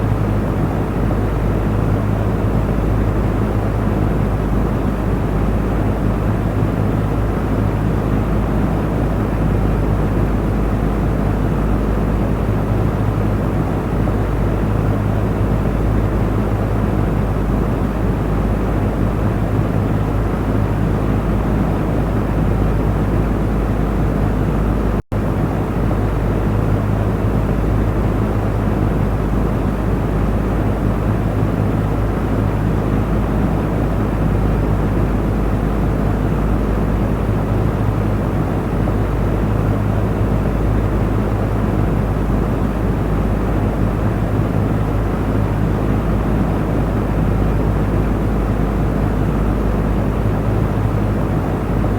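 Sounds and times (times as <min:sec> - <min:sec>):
electric fan running: 0:00.0 - 0:51.9.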